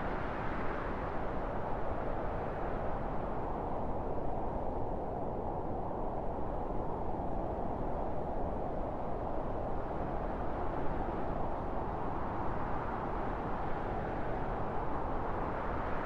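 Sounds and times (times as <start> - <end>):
wind blowing steadily: 0.0 - 16.0.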